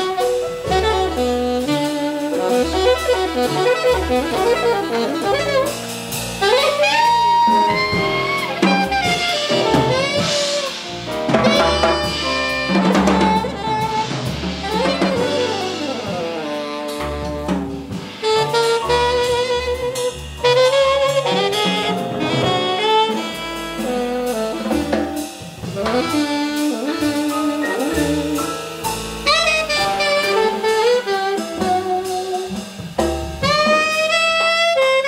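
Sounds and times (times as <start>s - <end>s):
double bass: 0.0s - 35.0s
drum kit: 0.0s - 35.0s
tenor saxophone jazz solo: 0.0s - 35.0s.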